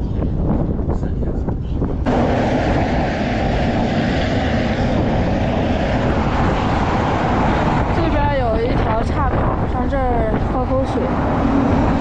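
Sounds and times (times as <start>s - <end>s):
wind on microphone: 0.0s - 12.0s
passing motor traffic: 2.1s - 12.0s.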